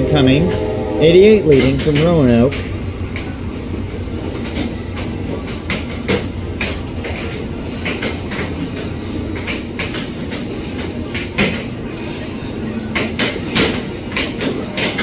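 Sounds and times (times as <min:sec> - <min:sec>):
train wheels rumbling on rail: 0:00.0 - 0:15.0
wheels clicking over track joints: 0:01.5 - 0:15.0.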